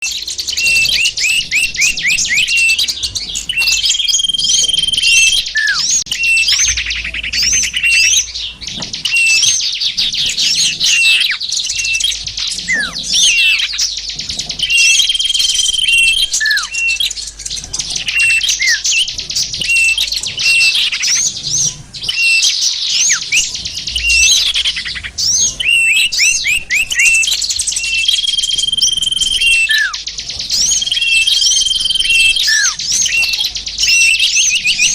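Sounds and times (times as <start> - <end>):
high bird whistles: 0.0 - 34.9
songbirds chirping and trilling: 0.0 - 34.9.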